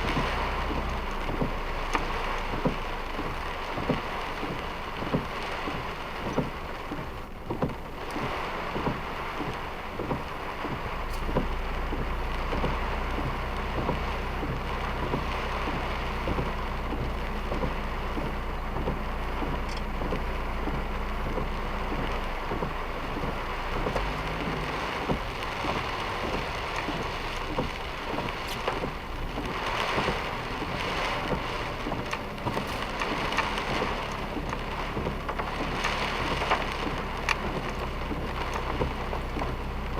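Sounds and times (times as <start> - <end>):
heavy rain pelting car: 0.0 - 39.9
vehicle low hum: 0.0 - 39.9.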